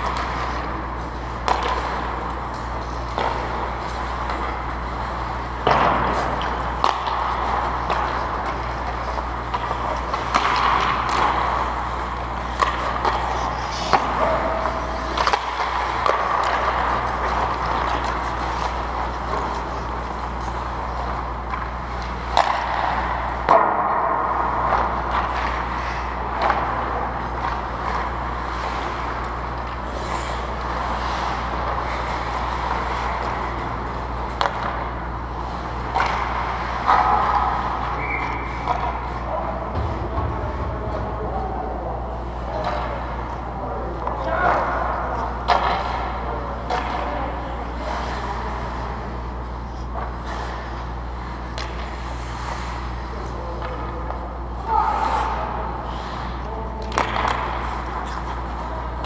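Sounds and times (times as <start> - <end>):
skate blades scraping ice: 0.0 - 23.7, 24.3 - 40.0, 44.2 - 53.8
hockey sticks and puck clacking: 0.0 - 59.0
steady low hum: 0.0 - 59.0.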